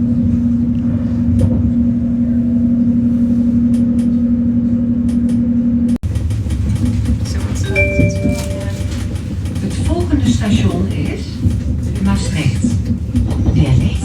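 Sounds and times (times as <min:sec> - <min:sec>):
electric train hum and rumble: 0:00.0 - 0:14.0.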